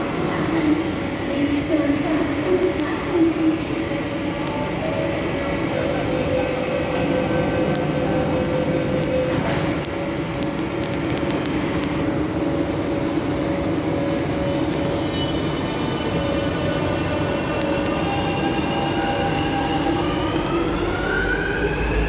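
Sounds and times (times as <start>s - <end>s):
train equipment hum: 0.0s - 22.0s.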